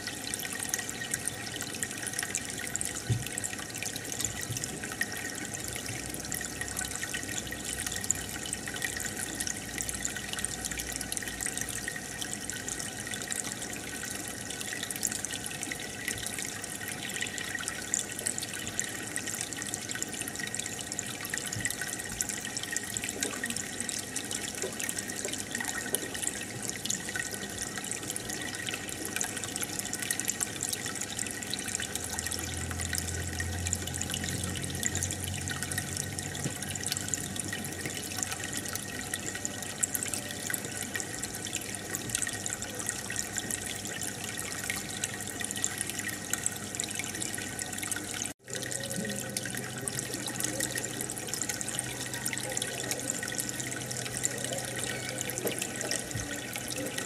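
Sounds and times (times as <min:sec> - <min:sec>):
aquarium water bubbling: 0:00.0 - 0:57.0
tiny bubbles fizzing: 0:00.0 - 0:57.0.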